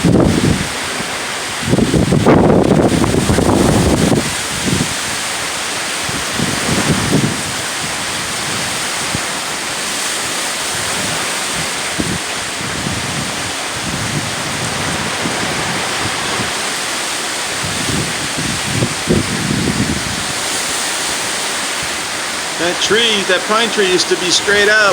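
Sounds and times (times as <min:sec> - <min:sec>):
wind gusts buffeting microphone: 0:00.0 - 0:09.4, 0:10.2 - 0:16.7, 0:17.4 - 0:22.5
hurricane wind and rain: 0:00.0 - 0:24.9.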